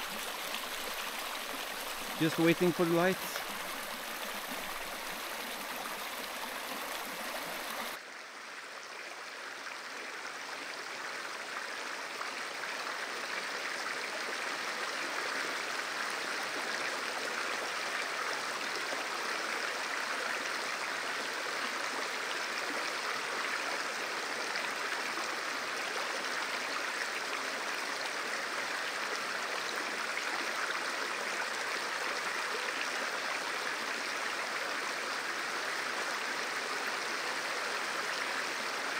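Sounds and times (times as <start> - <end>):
stream water rushing: 0.0 - 8.5, 9.2 - 38.9.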